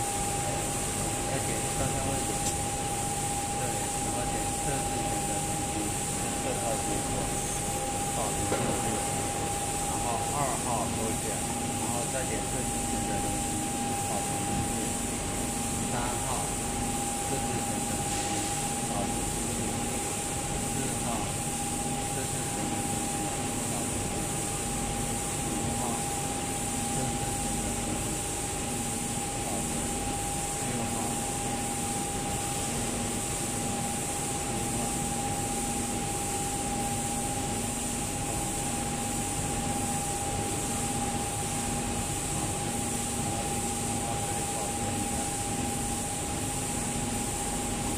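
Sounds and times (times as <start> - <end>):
machinery humming: 0.0 - 47.9.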